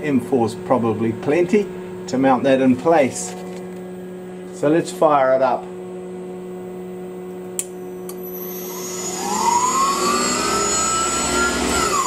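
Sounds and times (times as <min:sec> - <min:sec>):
mill spindle motor whine: 0:00.0 - 0:12.0
steady hum: 0:00.0 - 0:12.0.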